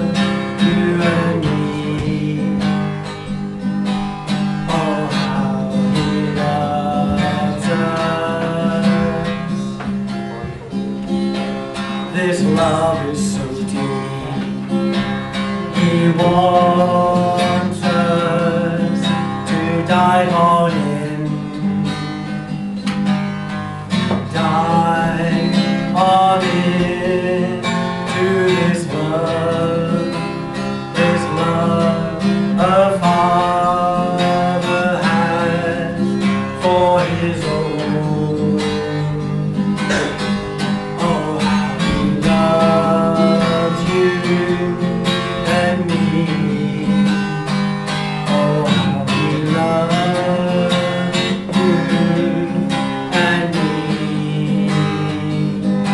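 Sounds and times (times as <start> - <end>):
person singing: 0.0 - 2.8, 4.6 - 10.7, 12.1 - 14.8, 15.5 - 21.7, 24.1 - 40.2, 40.9 - 47.5, 48.2 - 55.8
acoustic guitar strumming: 0.0 - 55.9.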